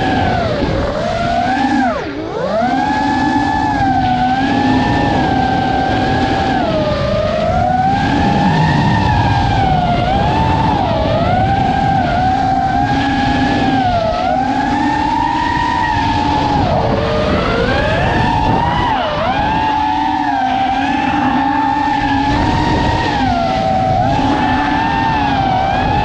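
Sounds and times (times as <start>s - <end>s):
model plane propeller whine: 0.0s - 26.0s.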